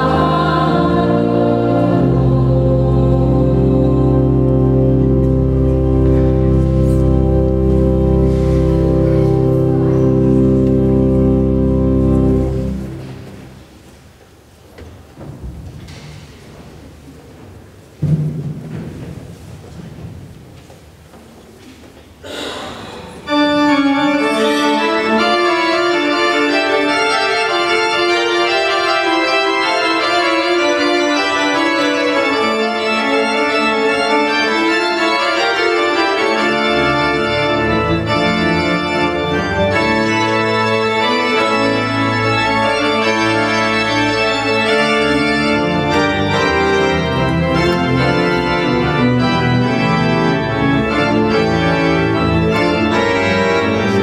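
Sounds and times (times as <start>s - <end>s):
deep organ pedal bass notes: 0.0s - 13.6s, 23.3s - 54.0s
pipe organ sustained chords: 0.0s - 13.9s, 23.2s - 54.0s.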